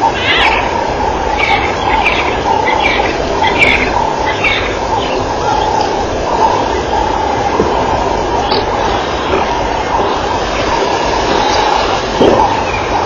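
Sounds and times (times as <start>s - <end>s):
loud steady rumbling: 0.0s - 13.0s.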